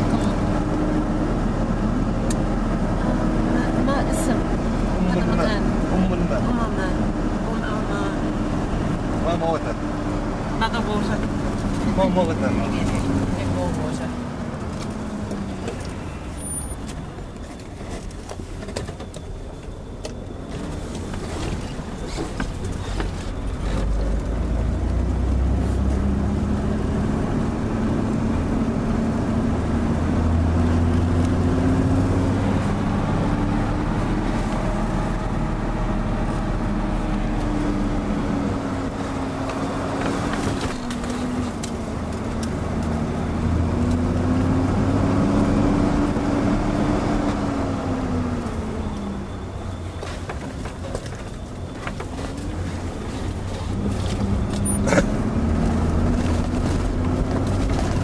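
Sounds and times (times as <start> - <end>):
road noise: 0.0 - 58.0
vehicle engine: 0.0 - 58.0.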